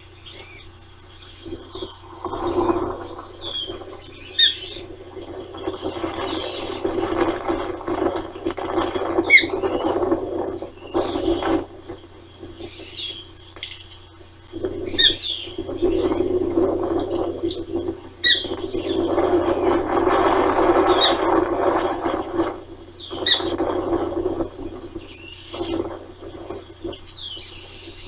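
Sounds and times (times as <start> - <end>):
ospreys chirping: 0.0 - 28.0
rushing noise: 1.4 - 13.4, 14.4 - 28.0.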